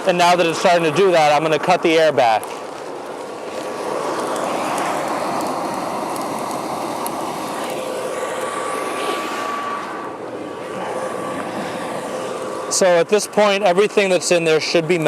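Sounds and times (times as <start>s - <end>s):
faint blower whine: 0.0s - 15.0s
rushing roar of air and charcoal: 0.0s - 15.0s.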